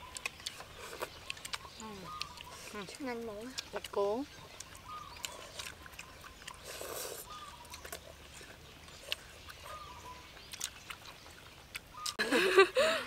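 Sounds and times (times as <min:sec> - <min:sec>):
noodles slurped and chewed: 0:00.0 - 0:12.2.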